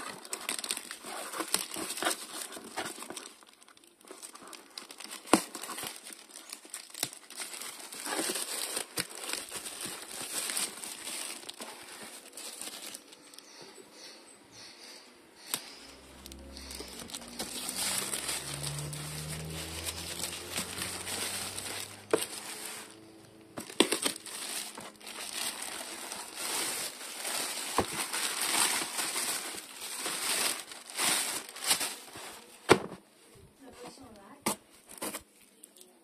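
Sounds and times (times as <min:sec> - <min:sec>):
plastic mailer bag crinkling: 0:00.0 - 0:13.6, 0:15.5 - 0:32.8.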